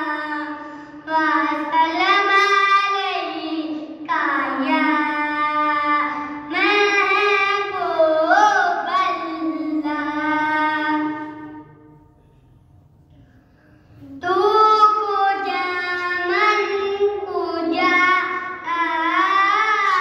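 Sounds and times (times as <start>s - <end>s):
boy singing unaccompanied: 0.0s - 11.6s, 14.0s - 20.0s.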